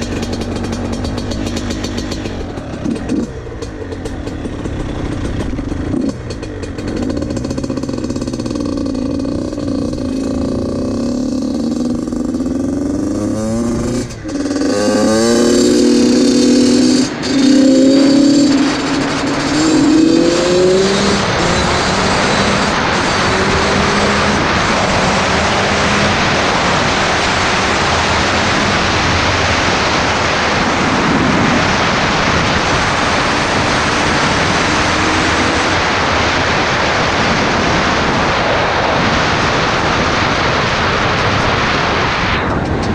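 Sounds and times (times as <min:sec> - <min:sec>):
motorcycle engine accelerating: 0:00.0 - 0:42.9
rushing wind noise of riding: 0:00.0 - 0:42.9.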